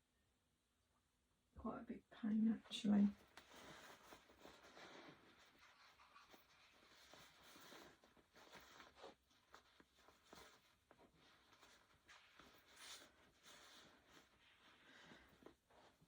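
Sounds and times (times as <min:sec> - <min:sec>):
faint rustling of clothes: 0:01.6 - 0:16.0.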